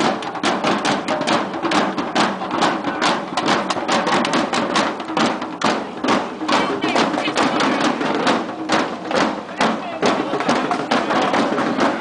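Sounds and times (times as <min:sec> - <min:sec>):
steady din: 0:00.0 - 0:12.0.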